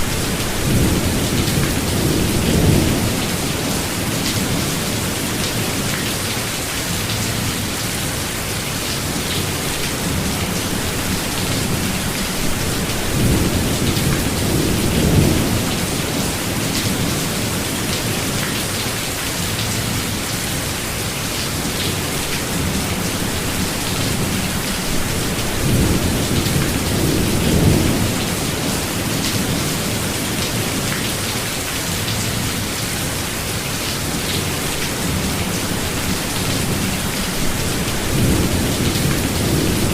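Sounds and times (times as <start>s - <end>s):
heavy rain in forest: 0.0s - 39.9s.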